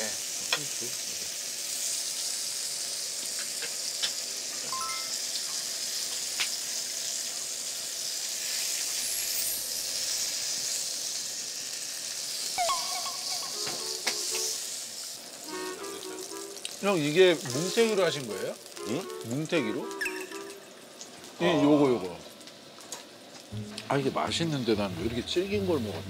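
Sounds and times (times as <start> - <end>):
meat sizzling in a grill pan: 0.0 - 26.0.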